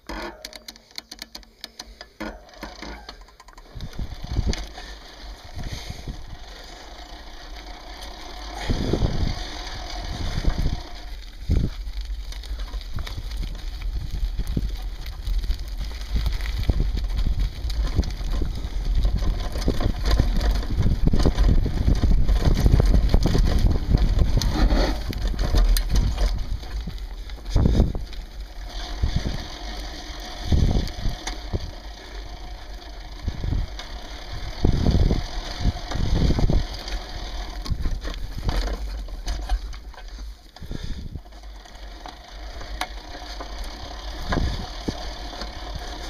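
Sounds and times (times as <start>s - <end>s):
tyres rumbling on dirt trail: 0.0s - 46.0s.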